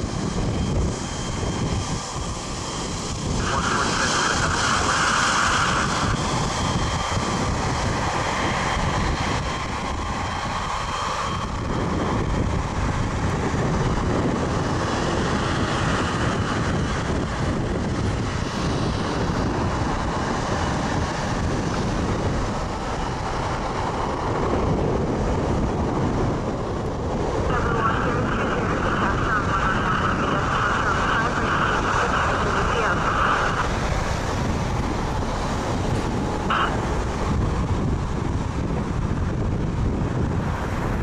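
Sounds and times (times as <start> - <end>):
jet engines running: 0.0 - 41.0.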